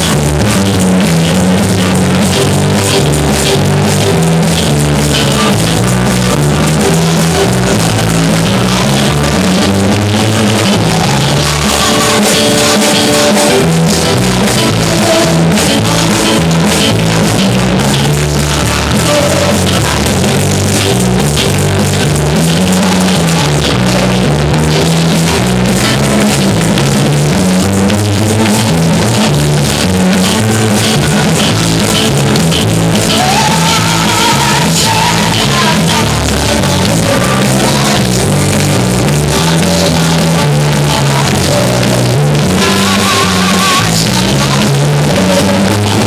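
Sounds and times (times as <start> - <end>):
bass line: 0.0 - 46.0
drum kit: 0.0 - 46.0
guitar: 0.0 - 46.0.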